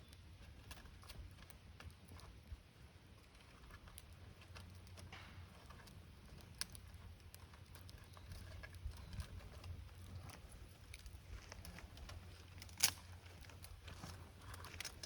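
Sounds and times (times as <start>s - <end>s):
campfire crackling: 0.0s - 15.0s
fire popping: 1.0s - 15.0s.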